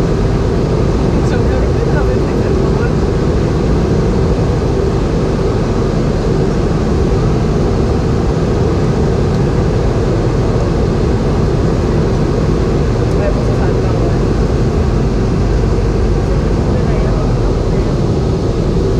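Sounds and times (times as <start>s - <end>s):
jet engines droning: 0.0s - 18.9s
rushing airflow in cabin: 0.0s - 18.9s.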